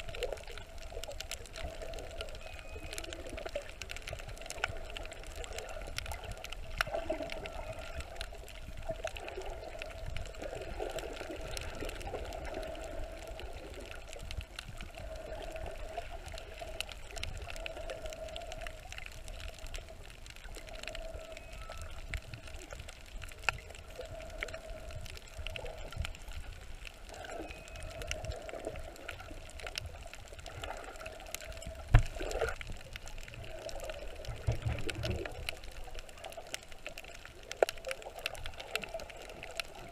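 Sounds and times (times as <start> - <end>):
faint clicks: 0.0 - 39.9
muffled underwater sloshing: 0.0 - 39.9.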